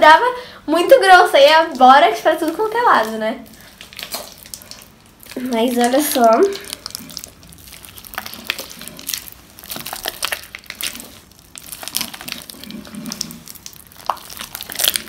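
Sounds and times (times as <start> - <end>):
slime squishing and crackling: 0.9 - 15.0.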